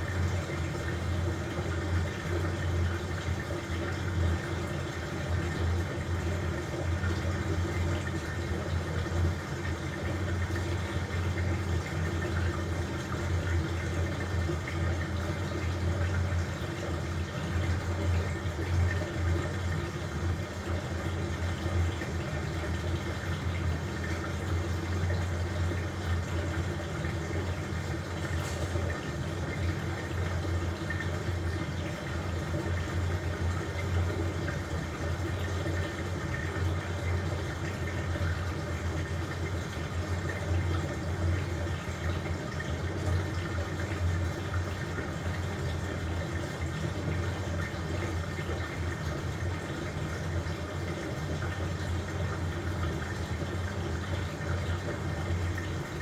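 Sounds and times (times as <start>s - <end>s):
water sloshing in washing machine: 0.0s - 56.0s.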